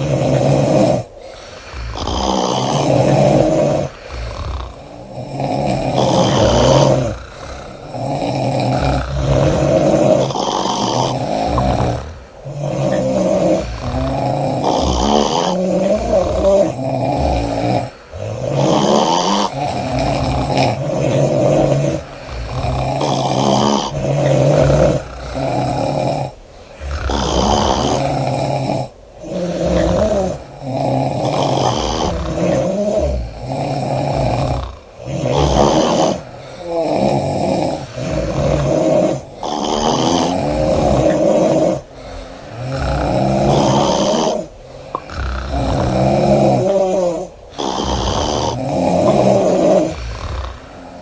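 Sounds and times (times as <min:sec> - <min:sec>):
people snoring: 0:00.0 - 0:51.0.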